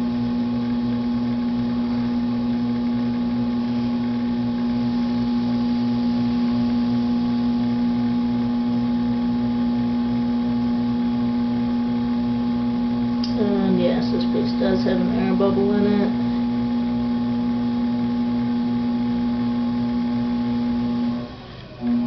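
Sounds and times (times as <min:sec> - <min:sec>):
potter's wheel motor hum: 0:00.0 - 0:22.0.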